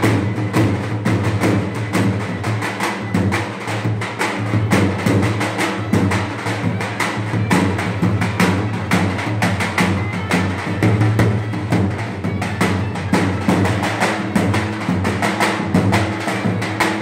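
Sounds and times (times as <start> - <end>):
folk drum beaten hard: 0.0 - 17.0.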